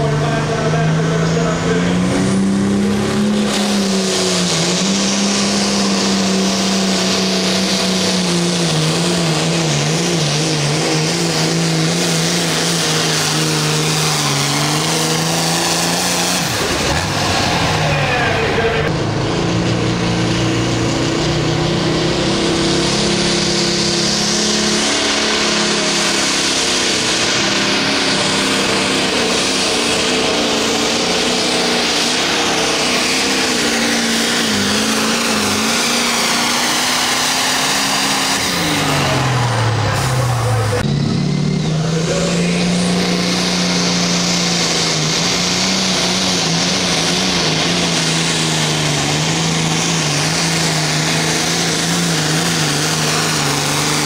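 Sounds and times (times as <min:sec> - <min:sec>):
tractor diesel engines roaring: 0:00.0 - 0:54.0.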